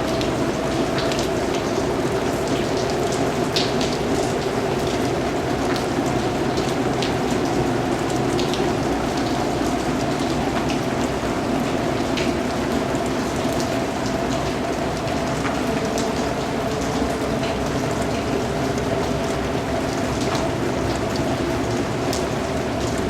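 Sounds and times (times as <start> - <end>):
rain pattering on a surface: 0.0 - 23.0.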